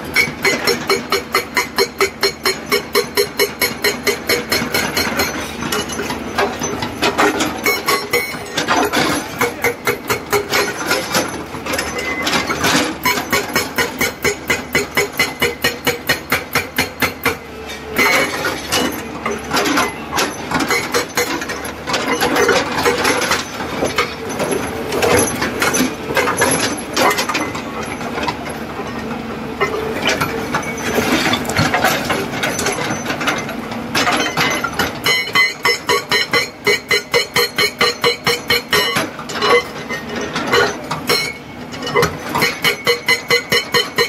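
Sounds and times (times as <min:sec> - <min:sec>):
hydraulic breaker hammering rock: 0:00.0 - 0:28.6, 0:29.6 - 0:44.0
excavator engine running: 0:00.0 - 0:44.0.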